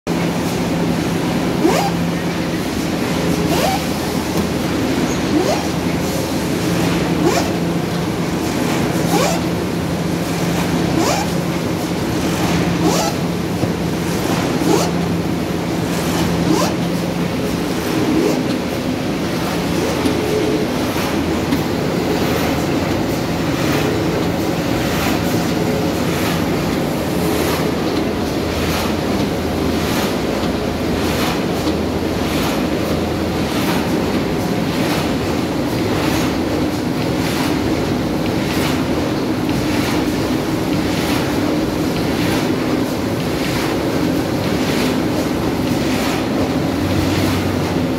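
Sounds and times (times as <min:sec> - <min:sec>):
die-cutting machine humming and clattering: 0:00.1 - 0:47.9
loud mechanical noise: 0:00.1 - 0:47.9.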